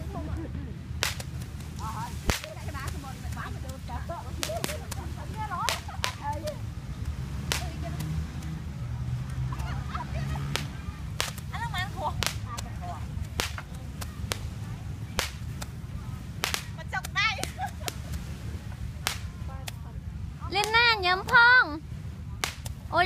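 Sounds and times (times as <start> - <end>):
small fireworks cracking and popping: 0.0 - 23.0
steady low rumble: 0.0 - 23.0.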